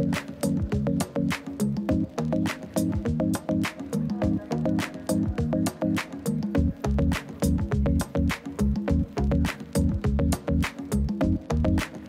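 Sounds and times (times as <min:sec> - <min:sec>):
electronic music with bass line: 0:00.0 - 0:12.0.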